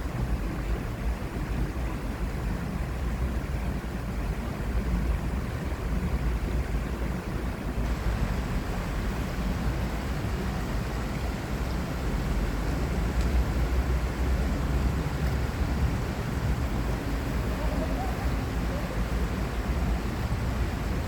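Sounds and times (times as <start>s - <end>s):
flowing water: 0.0s - 21.0s
traffic rumble: 0.0s - 21.0s
wind: 0.0s - 21.0s.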